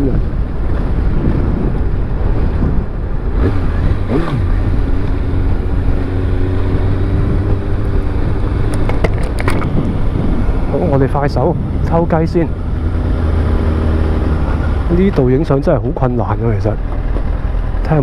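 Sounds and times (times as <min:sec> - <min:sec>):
wind rumbling on microphone: 0:00.0 - 0:18.0
motorcycle engine running: 0:00.3 - 0:18.0.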